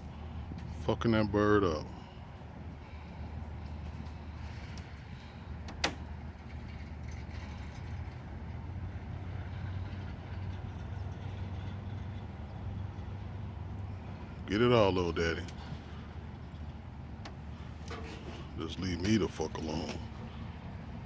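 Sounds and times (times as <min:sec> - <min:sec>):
engine idling: 0:01.6 - 0:21.0.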